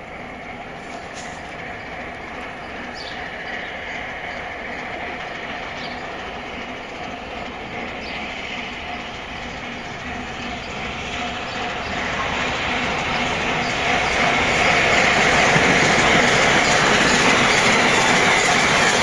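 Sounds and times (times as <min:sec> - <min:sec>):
steam locomotive working hard: 0:00.0 - 0:19.0.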